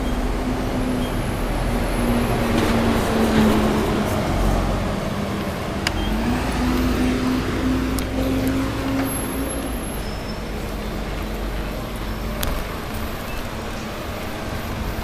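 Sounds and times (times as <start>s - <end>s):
traffic: 0.0s - 15.0s
vehicle engine hum: 0.0s - 15.0s
wind noise: 0.0s - 15.0s.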